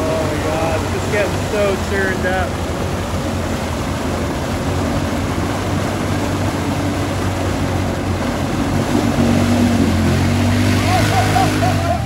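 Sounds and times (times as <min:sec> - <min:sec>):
atv engine running under load: 0:00.0 - 0:12.0
tyres splashing through mud: 0:00.0 - 0:12.0.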